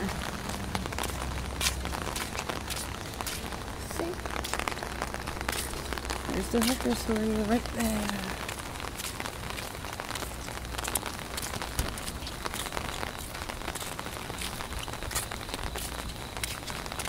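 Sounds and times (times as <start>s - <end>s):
rain hissing on umbrella: 0.0s - 17.0s
raindrops ticking on canopy: 0.0s - 17.0s.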